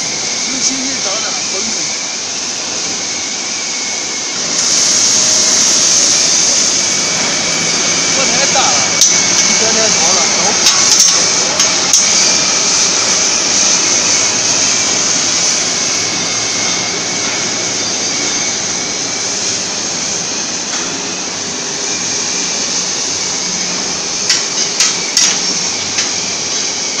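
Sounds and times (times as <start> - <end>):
cutting torch hissing: 0.0 - 27.0.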